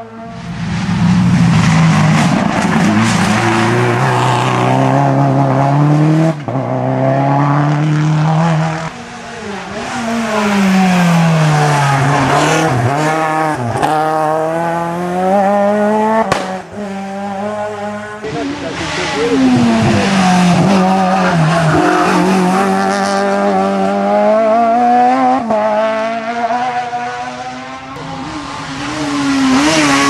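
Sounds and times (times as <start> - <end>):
rally car engines revving: 0.0 - 30.0.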